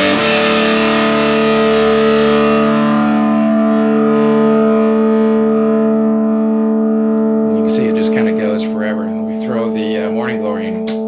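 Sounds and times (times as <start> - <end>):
overdriven electric guitar chord ringing: 0.0 - 11.0.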